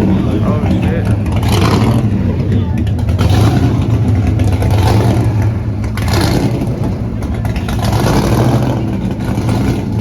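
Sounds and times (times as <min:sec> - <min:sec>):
car engine running loudly: 0:00.0 - 0:10.0.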